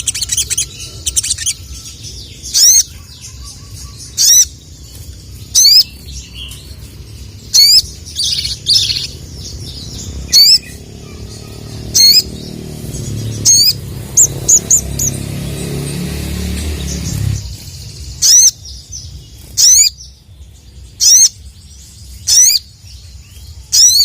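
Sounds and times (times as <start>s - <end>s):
bird twittering: 0.0s - 24.0s.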